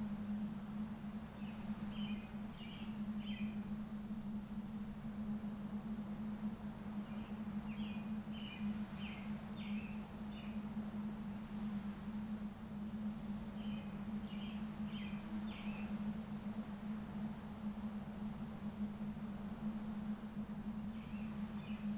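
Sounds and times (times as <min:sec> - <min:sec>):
background hiss: 0:00.0 - 0:21.9
steady low hum: 0:00.0 - 0:21.9
songbird chirping: 0:01.1 - 0:21.9.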